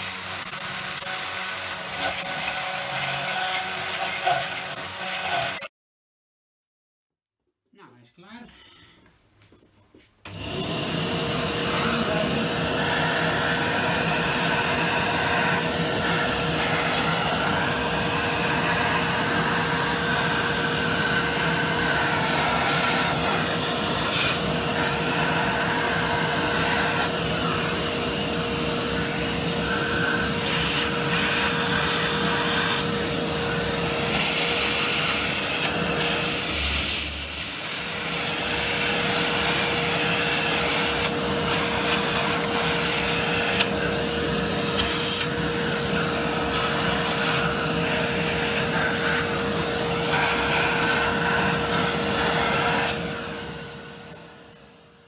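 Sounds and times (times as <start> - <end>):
vacuum cleaner running: 0.0 - 5.7, 10.2 - 55.0.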